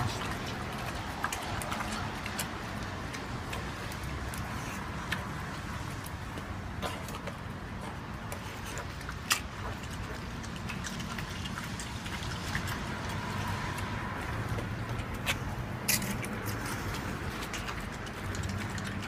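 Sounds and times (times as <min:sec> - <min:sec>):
pig munching wetly: 0:00.0 - 0:19.0.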